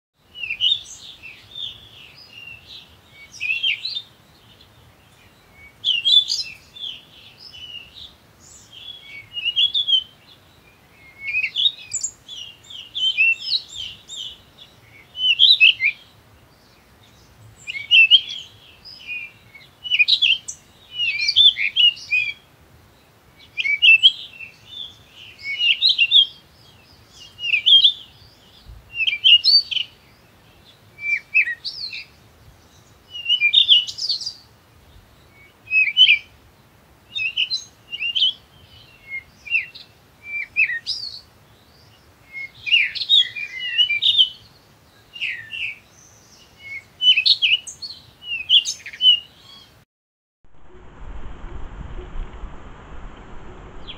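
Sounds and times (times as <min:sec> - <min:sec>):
songbird twittering: 0:00.3 - 0:22.4, 0:23.4 - 0:36.3, 0:37.1 - 0:49.8, 0:51.9 - 0:53.9.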